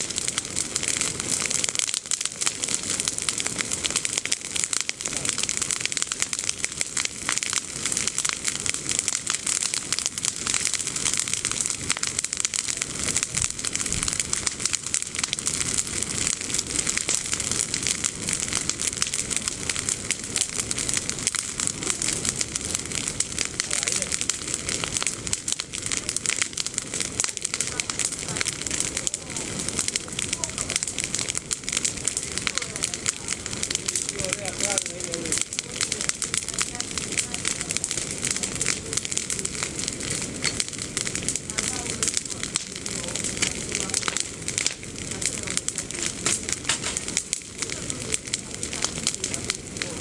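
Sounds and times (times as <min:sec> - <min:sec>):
bonfire crackling and popping: 0:00.0 - 0:50.0.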